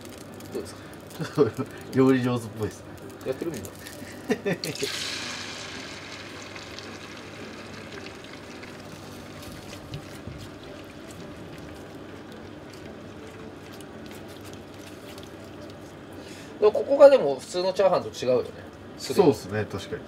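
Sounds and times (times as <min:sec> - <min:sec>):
egg sizzling in a frying pan: 0:00.0 - 0:16.7.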